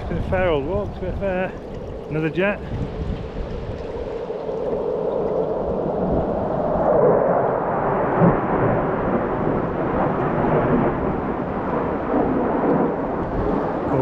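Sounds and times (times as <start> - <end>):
jet flying over low: 0.0 - 14.0.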